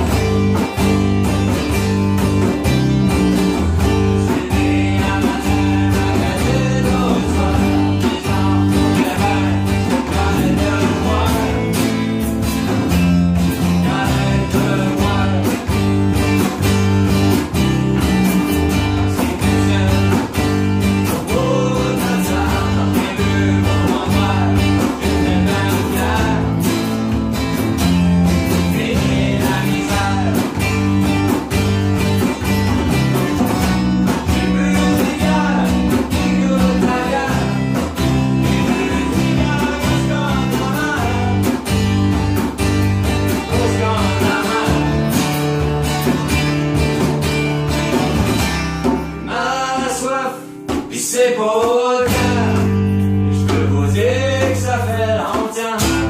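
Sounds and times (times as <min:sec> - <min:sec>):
acoustic bass walking line: 0:00.0 - 0:56.0
strummed acoustic guitar: 0:00.0 - 0:56.0.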